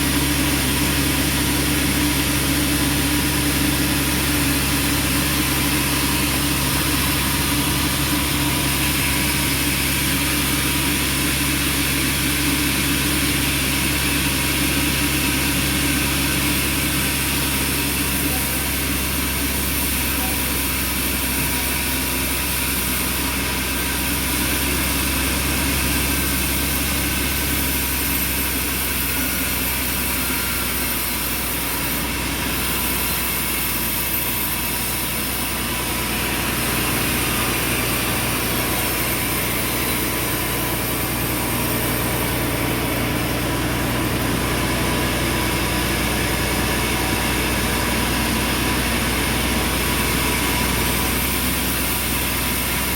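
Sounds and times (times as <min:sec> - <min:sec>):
bandsaw hum and whine: 0:00.0 - 0:52.9.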